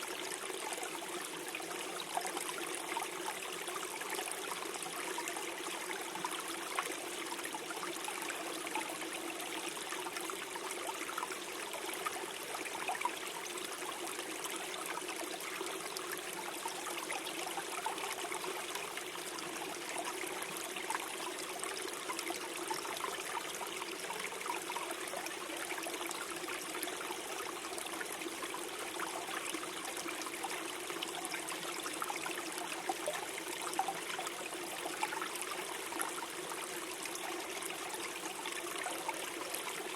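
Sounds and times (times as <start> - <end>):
stream gurgling over stones: 0.0 - 39.9.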